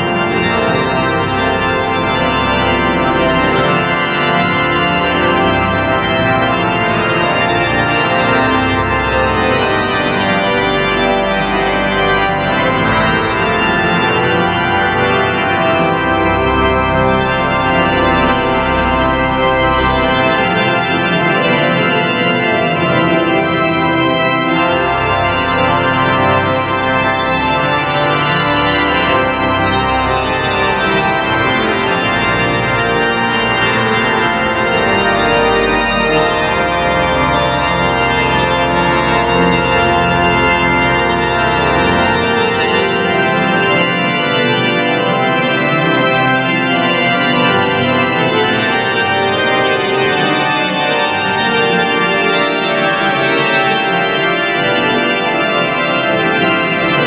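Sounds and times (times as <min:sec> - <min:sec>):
deep organ pedal bass notes: 0:00.0 - 0:57.0
organ playing chords: 0:00.0 - 0:57.0.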